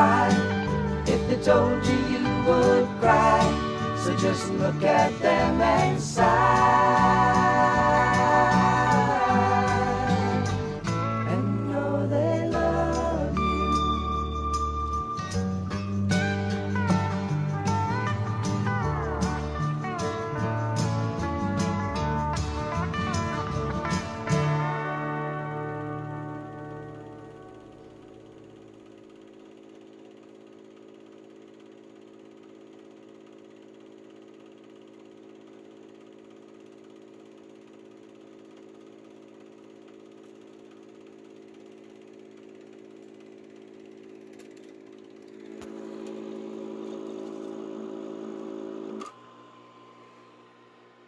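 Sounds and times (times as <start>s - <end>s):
film projector motor whirring: 0.0s - 51.0s.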